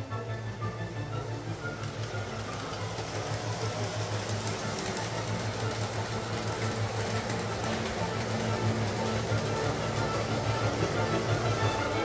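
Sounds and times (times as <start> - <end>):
model train motor whirring: 1.1 - 12.0.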